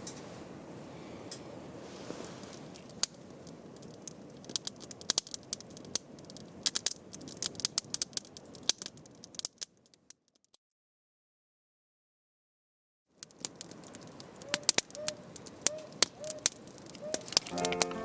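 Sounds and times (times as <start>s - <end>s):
campfire crackling and popping: 0.6s - 10.5s, 13.2s - 18.0s.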